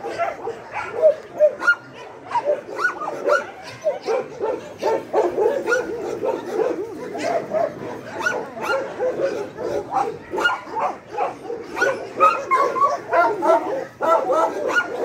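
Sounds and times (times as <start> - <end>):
dogs barking and yipping: 0.0 - 15.0.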